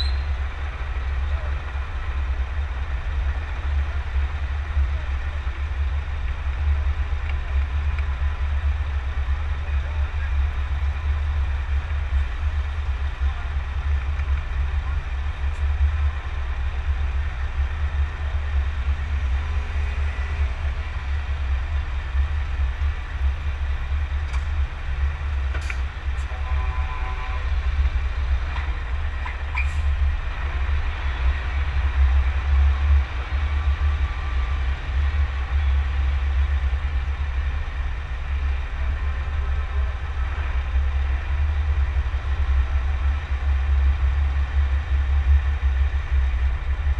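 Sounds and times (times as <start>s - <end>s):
truck engine rumbling: 0.0s - 46.9s.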